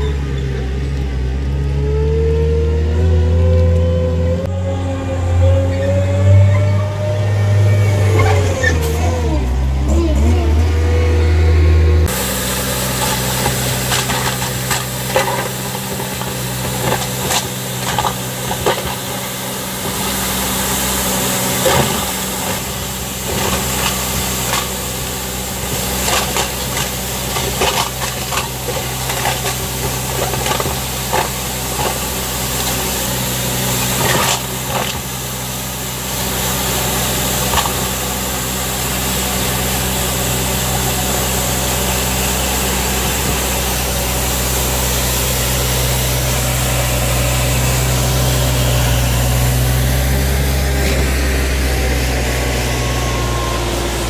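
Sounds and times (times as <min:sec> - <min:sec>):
street sweeper engine hum: 0:00.0 - 0:54.0.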